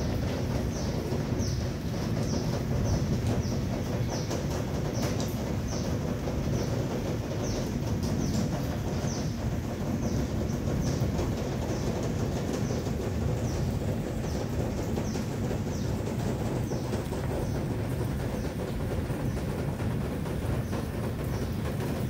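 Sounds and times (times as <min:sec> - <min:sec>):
birds chirping: 0:00.0 - 0:22.0
low rumbling noise: 0:00.0 - 0:22.0.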